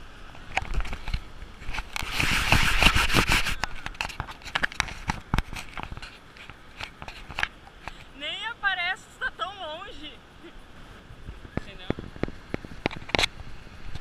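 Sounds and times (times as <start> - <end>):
rough rustling noise: 0.0 - 14.0.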